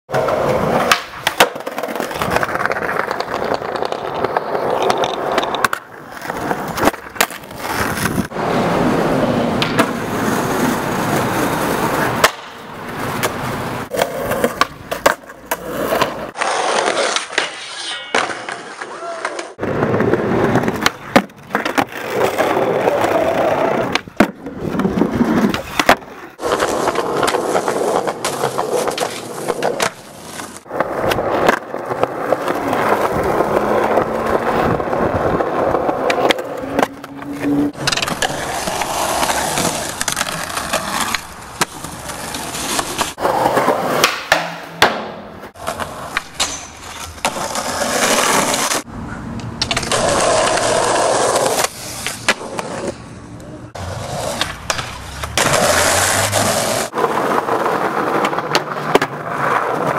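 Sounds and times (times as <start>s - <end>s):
skateboard clacks and impacts: 0.1s - 53.0s, 53.7s - 59.9s
skateboard wheels rolling: 0.1s - 59.9s.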